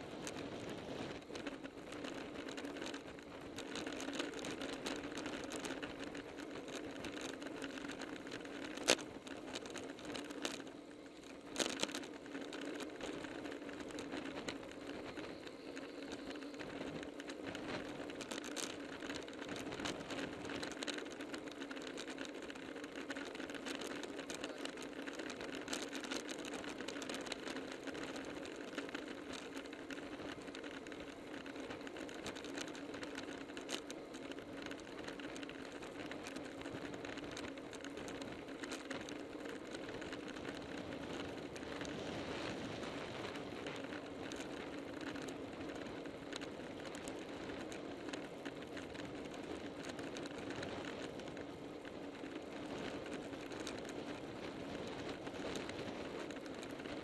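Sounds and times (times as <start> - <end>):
bicycle tyres and chain whirring: 0.0 - 57.0.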